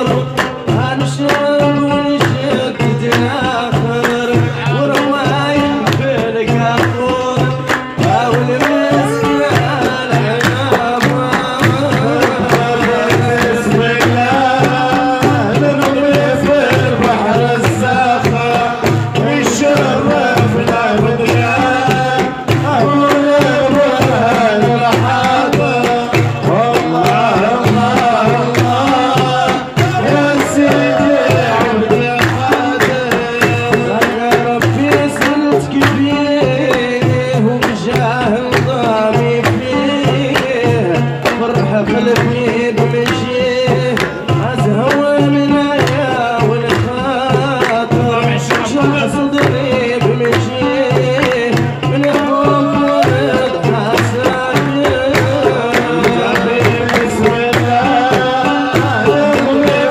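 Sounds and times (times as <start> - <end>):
hand claps: 0.0 - 59.9
man singing: 0.0 - 59.9
plucked lute: 0.0 - 59.9
steady drum beat: 0.0 - 59.9.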